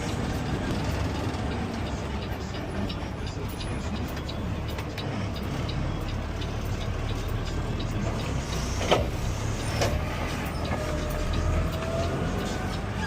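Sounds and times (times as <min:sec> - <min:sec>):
garbage truck engine rumble: 0:00.0 - 0:13.0.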